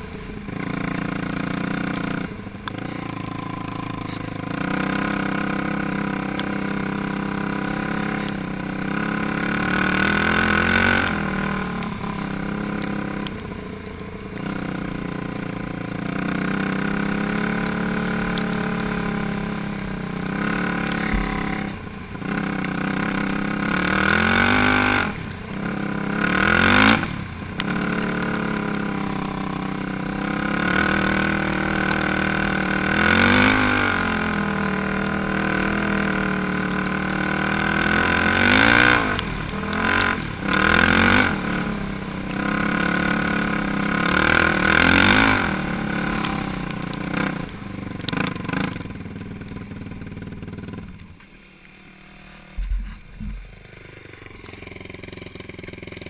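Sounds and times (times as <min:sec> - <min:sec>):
quad engine revving: 0:00.0 - 0:51.0, 0:51.8 - 0:56.0.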